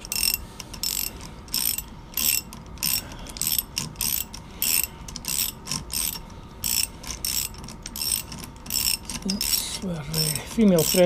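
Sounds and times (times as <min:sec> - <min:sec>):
ratchet pawl clicking: 0:00.0 - 0:11.0.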